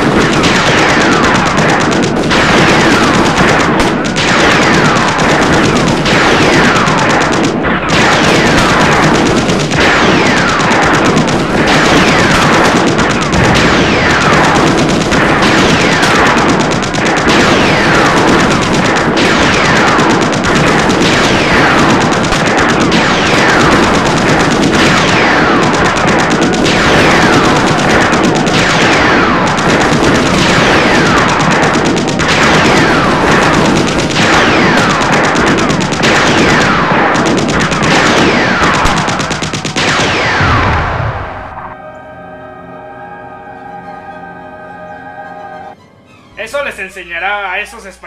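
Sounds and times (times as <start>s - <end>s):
rapid machine-gun fire: 0.0s - 41.7s.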